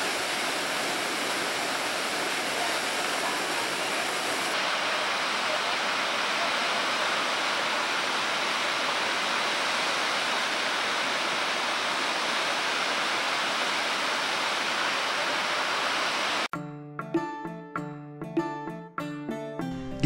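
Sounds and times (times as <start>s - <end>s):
waterfall rushing: 0.0s - 16.5s.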